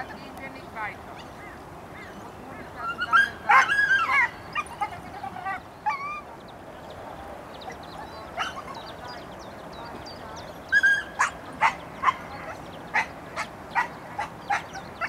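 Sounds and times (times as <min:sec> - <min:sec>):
birds calling: 0:00.0 - 0:15.0
steady background hiss: 0:00.0 - 0:15.0.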